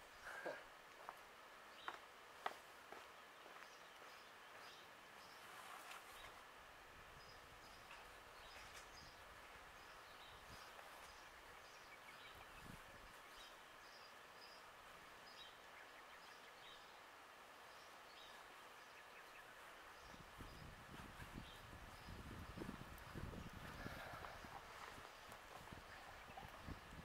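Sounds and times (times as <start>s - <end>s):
distant birds chirping: 0.0s - 27.0s
outdoor background hiss: 0.0s - 27.0s.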